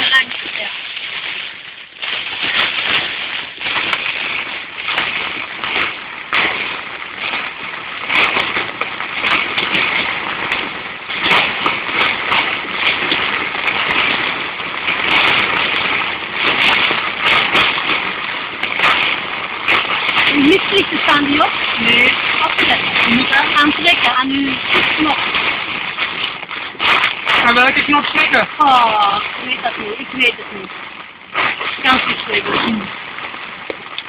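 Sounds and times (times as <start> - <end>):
heavy rain on car roof: 0.0 - 34.0.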